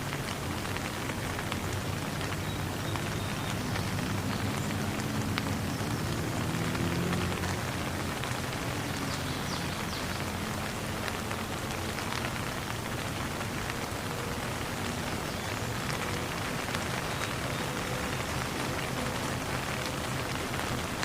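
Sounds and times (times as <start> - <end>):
falling water hiss: 0.0 - 21.0.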